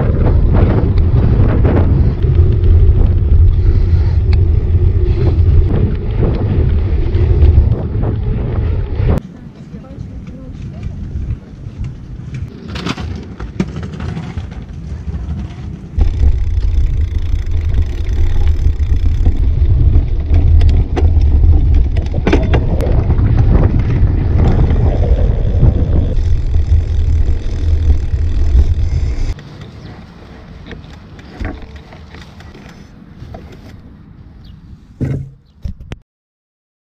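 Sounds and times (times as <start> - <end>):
wind buffeting microphone: 0.0 - 12.6, 14.7 - 31.8.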